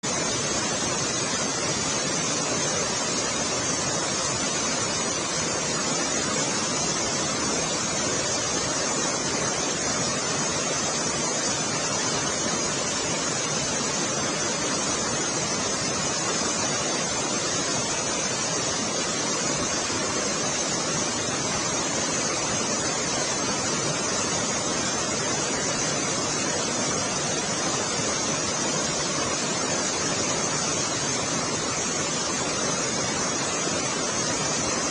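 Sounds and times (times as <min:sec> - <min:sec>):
floodwater rushing: 0:00.0 - 0:34.9.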